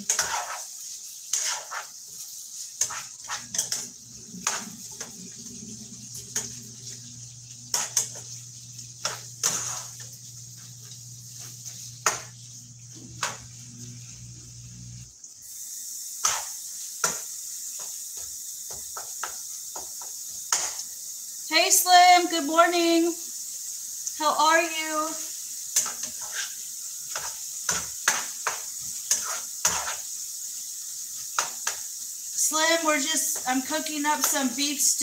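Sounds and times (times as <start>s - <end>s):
meat sizzling in a frying pan: 0.0s - 35.0s.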